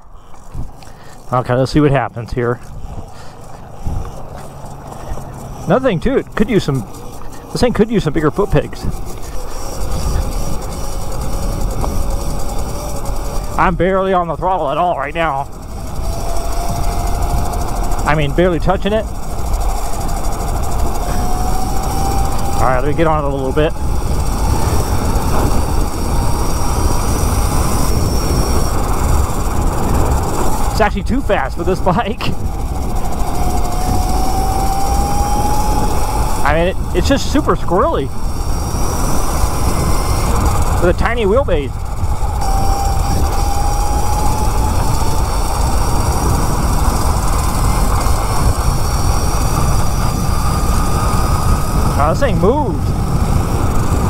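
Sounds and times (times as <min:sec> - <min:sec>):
electric motor whine: 0:00.0 - 0:54.0
road noise: 0:00.0 - 0:54.0
wind rushing over microphone: 0:00.0 - 0:54.0.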